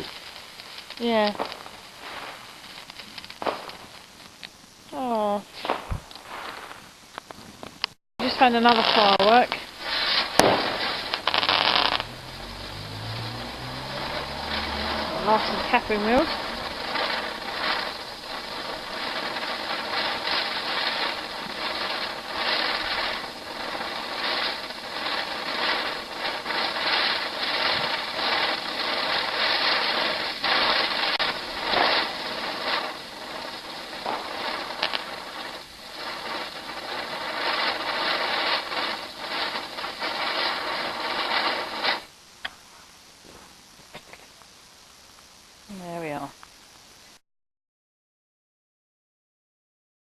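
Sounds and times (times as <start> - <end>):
firework fizzing and crackling: 0.0 - 47.2.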